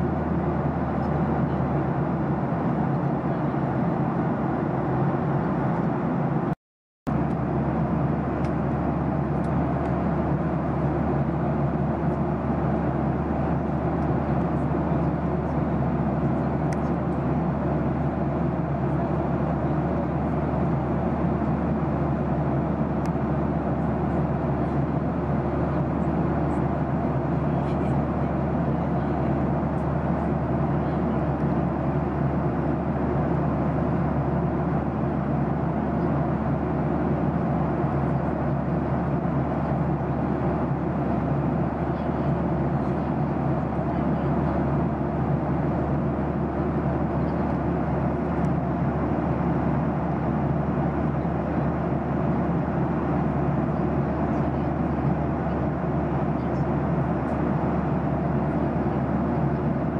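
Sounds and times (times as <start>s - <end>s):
jet engine and airflow rush: 0.0s - 59.9s
low hum: 0.0s - 59.9s.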